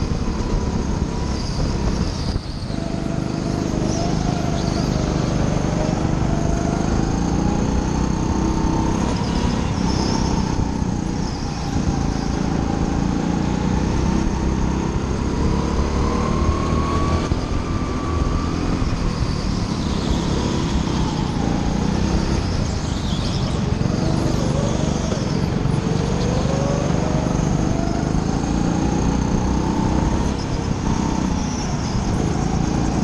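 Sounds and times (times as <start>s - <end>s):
go-kart motor drone: 0.0s - 33.0s.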